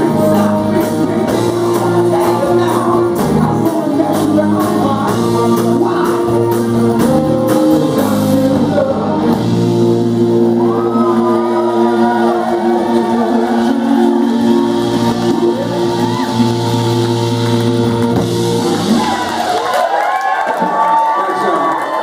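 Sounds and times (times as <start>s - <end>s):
lead singer: 0.0s - 19.9s
soul band playing: 0.0s - 20.0s.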